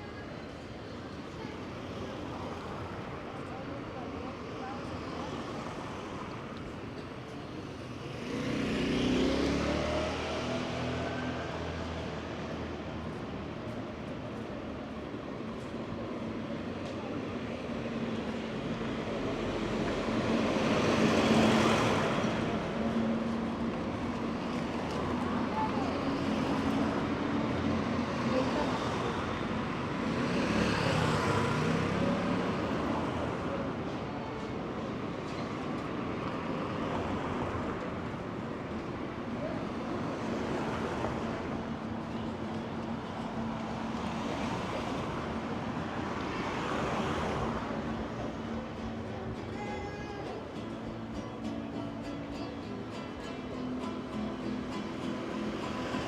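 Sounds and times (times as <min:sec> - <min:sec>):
low hum of traffic: 0:00.0 - 0:56.0.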